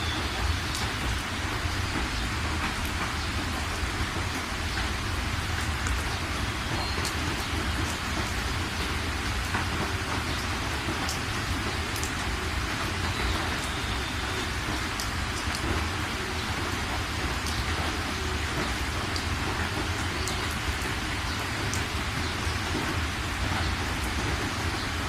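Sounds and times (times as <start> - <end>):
heavy rain falling: 0.0 - 25.0
rain drop ticks: 0.0 - 25.0.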